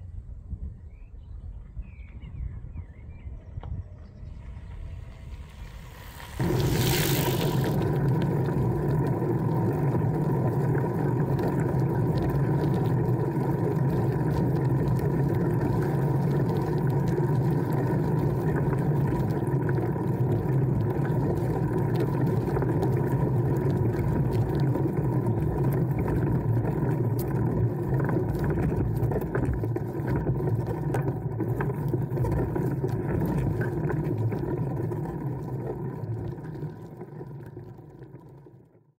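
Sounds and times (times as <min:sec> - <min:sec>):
wind rumble: 0:00.0 - 0:37.5
tyres rolling over gravel: 0:04.8 - 0:38.6.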